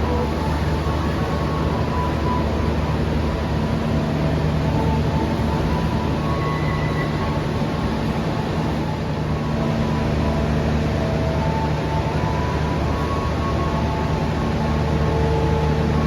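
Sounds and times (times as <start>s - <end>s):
passenger train rumbling: 0.0s - 16.0s.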